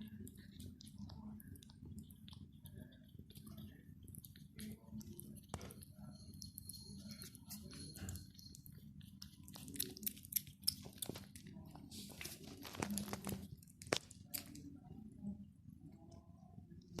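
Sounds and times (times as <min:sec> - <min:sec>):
cats chewing: 0:00.0 - 0:15.0.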